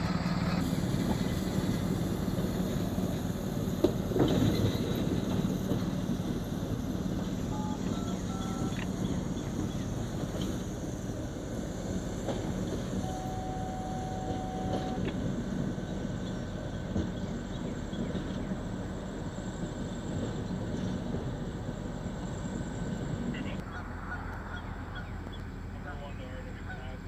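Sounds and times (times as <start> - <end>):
train rumbling by: 0.0 - 27.0.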